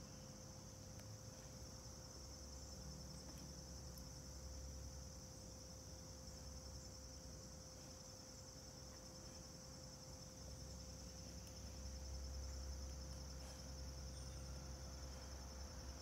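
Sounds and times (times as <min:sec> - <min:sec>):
insects chirring: 0:00.0 - 0:16.0
thin steady hum: 0:00.0 - 0:16.0.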